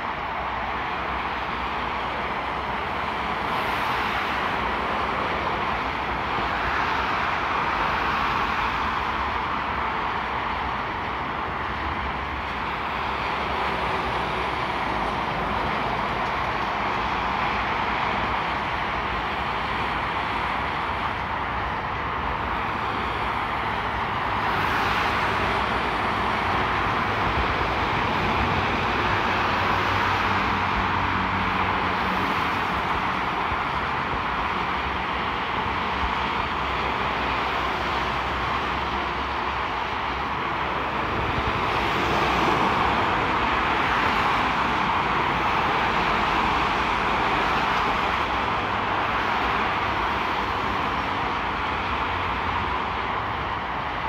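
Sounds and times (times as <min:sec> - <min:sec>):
heavy motorway traffic: 0:00.0 - 0:54.0.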